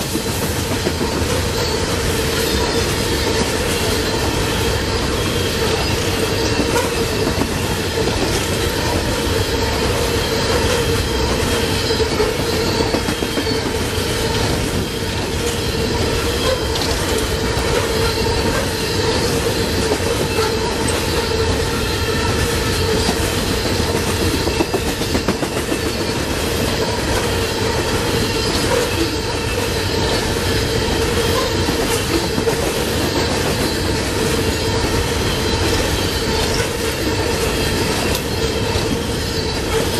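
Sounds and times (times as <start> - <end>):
high wheel squeal: 0.0 - 39.9
rhythmic clickety-clack: 0.0 - 39.9
train wheels rumbling on rail: 0.0 - 39.9.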